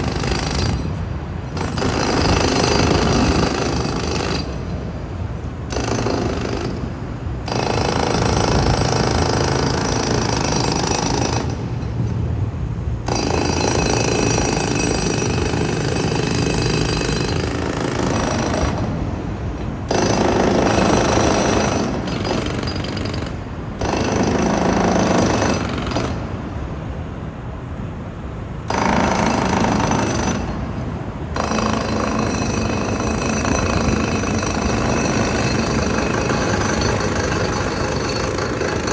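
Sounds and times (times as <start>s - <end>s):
jackhammer hammering: 0.0s - 4.6s, 5.7s - 6.9s, 7.5s - 11.6s, 13.1s - 19.0s, 19.9s - 26.2s, 28.7s - 30.6s, 31.4s - 38.9s.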